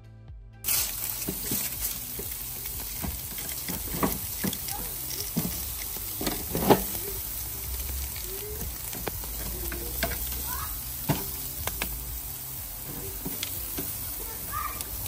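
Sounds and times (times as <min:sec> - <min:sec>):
food sizzling: 0:00.6 - 0:15.0.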